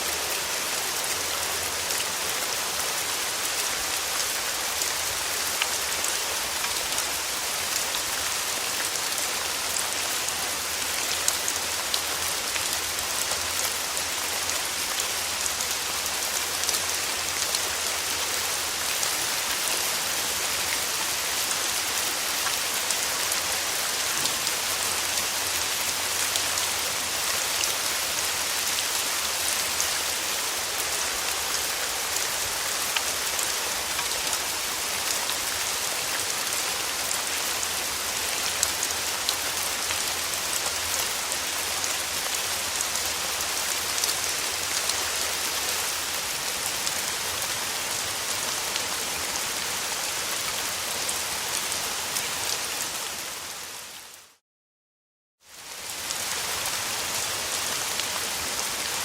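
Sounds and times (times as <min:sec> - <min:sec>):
rain pattering on a surface: 0:00.0 - 0:54.3, 0:55.5 - 0:59.0.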